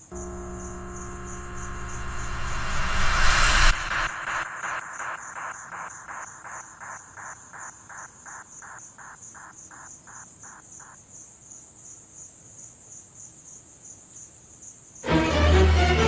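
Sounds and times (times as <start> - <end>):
high-pitched cricket trill: 0.0 - 15.1
lower-pitched insect chirping: 0.0 - 15.1.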